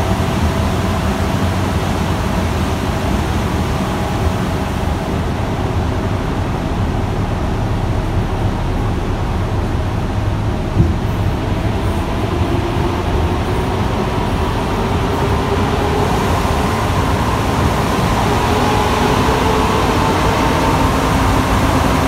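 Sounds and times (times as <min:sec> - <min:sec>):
metro car rumble: 0:00.0 - 0:22.0.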